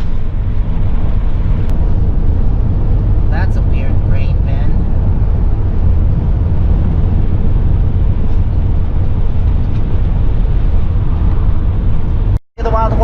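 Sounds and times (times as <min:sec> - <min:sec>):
road and engine noise in cab: 0:00.0 - 0:13.0.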